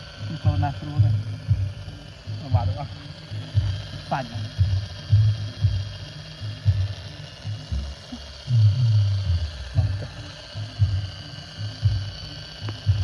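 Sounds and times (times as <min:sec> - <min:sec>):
small electric motor whirring: 0:00.0 - 0:13.0.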